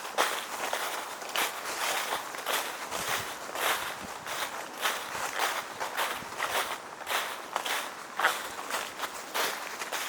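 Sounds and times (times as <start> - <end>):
footsteps crunching through dry leaves: 0.0 - 10.0.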